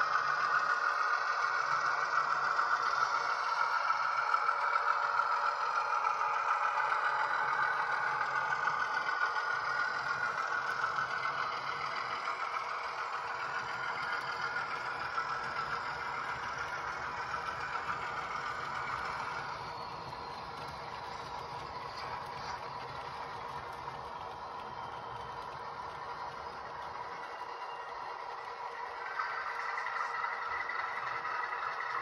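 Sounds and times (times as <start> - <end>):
diesel engine sound from small speaker: 0.0 - 32.0
model wagons rattling on track: 0.0 - 32.0.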